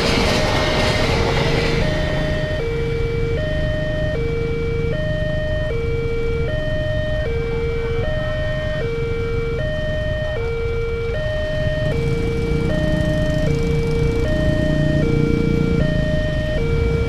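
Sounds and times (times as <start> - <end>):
two-tone level crossing alarm: 1.4 - 17.0.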